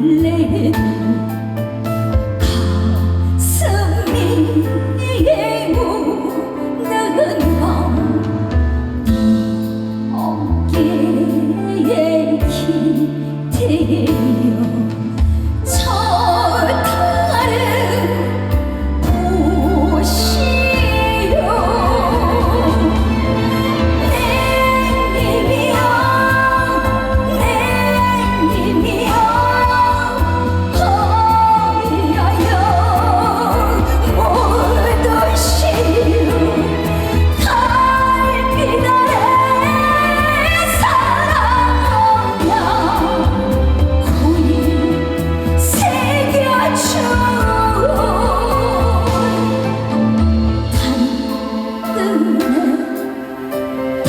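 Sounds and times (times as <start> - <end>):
woman singing with vibrato: 0.0 - 1.3, 2.4 - 8.4, 9.1 - 54.0
amplified band with bass: 0.0 - 53.0.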